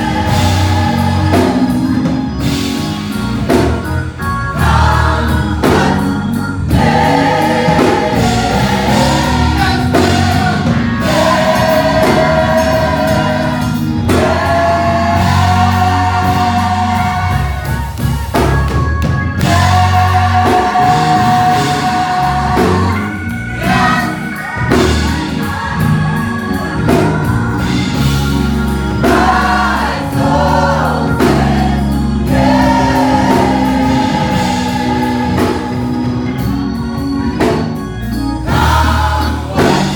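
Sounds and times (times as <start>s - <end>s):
band bass and drums: 0.0s - 39.9s
gospel choir singing: 0.0s - 39.9s.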